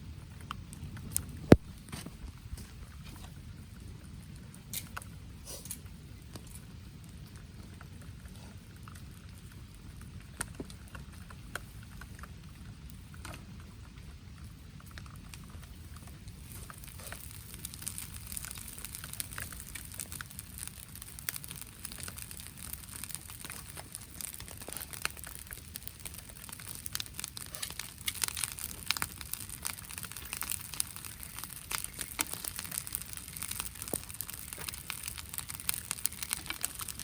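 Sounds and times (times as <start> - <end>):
rain pattering: 0.1 - 5.2, 5.8 - 37.0
sharp ticks and pops: 0.3 - 37.0.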